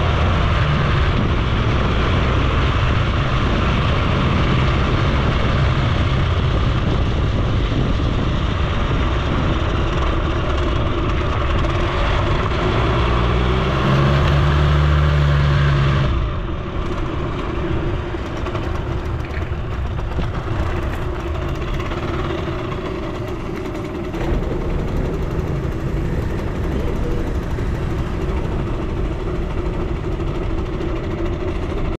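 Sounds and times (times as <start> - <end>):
moped engine revving: 0.0 - 32.0
road noise: 0.0 - 32.0.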